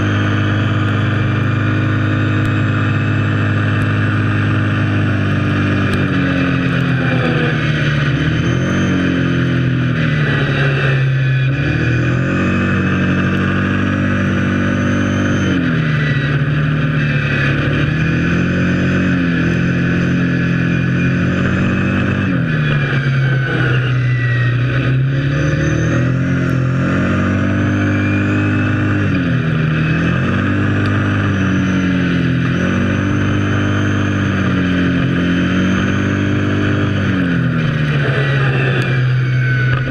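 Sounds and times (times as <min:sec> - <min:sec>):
quad engine running: 0:00.0 - 0:39.9.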